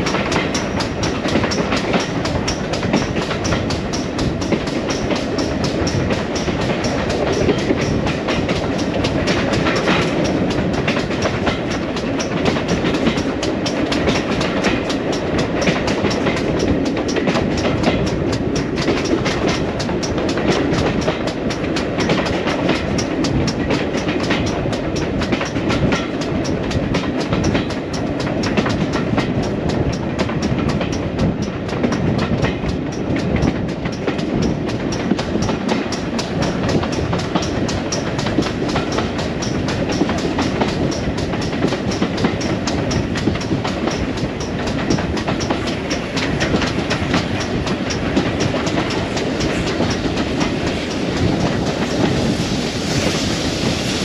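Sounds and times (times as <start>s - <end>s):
train wheels rumbling and clicking: 0.0s - 54.0s.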